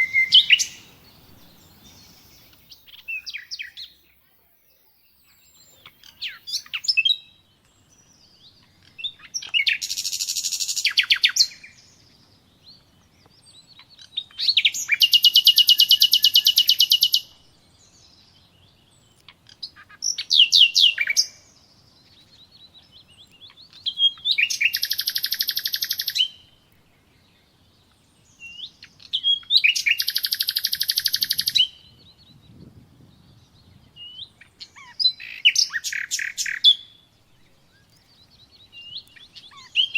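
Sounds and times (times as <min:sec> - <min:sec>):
songbird trilling: 0:00.0 - 0:04.2, 0:05.1 - 0:07.4, 0:08.0 - 0:11.8, 0:13.2 - 0:17.4, 0:19.0 - 0:26.5, 0:28.3 - 0:32.6, 0:33.8 - 0:39.9.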